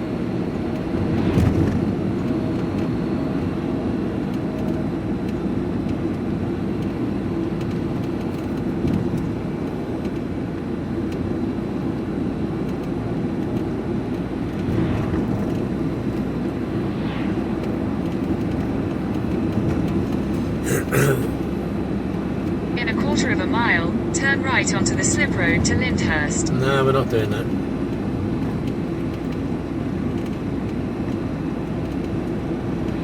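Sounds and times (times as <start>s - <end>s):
engine and road noise in cab: 0.0s - 20.6s, 21.5s - 33.0s.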